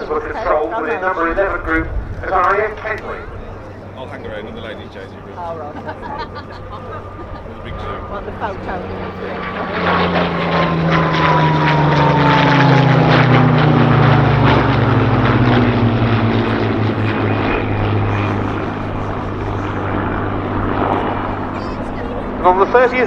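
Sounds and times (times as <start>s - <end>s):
piston aircraft engine flying past: 0.0s - 23.0s.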